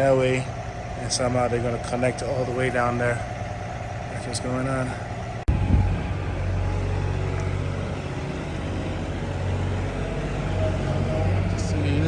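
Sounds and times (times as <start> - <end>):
construction equipment engine rumbling: 0.0 - 12.0.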